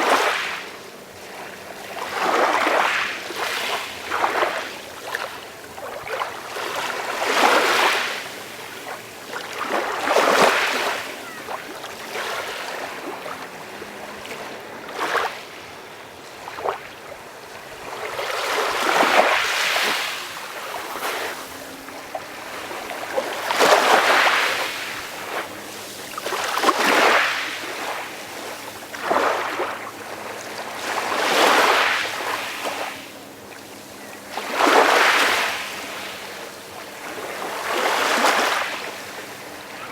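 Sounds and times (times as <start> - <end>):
calm sea waves washing in: 0.0 - 39.9.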